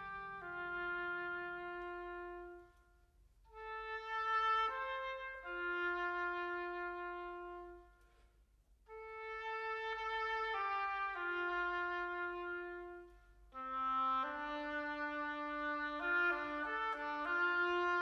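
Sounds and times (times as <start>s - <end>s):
slow orchestral music: 0.0s - 18.0s.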